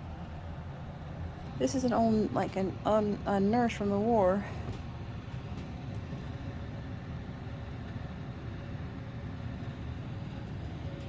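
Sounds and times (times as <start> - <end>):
room background rumble and hiss: 0.0 - 11.0.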